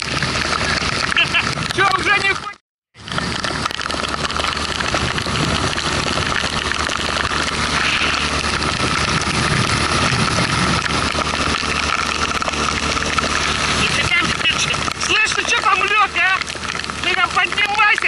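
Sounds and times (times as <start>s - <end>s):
heavy rain on boat and river: 0.0s - 18.0s
outboard motor running: 0.0s - 18.0s.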